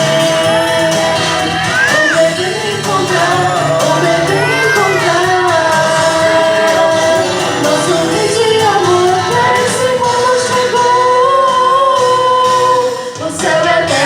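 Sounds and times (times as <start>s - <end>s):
choir singing with accompaniment: 0.0s - 14.0s.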